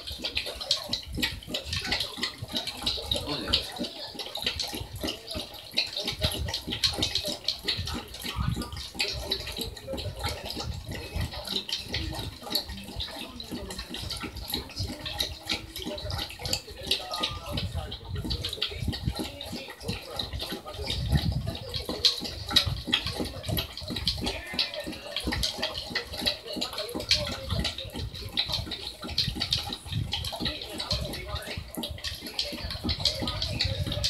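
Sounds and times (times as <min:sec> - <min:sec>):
pet lapping water: 0:00.0 - 0:34.0.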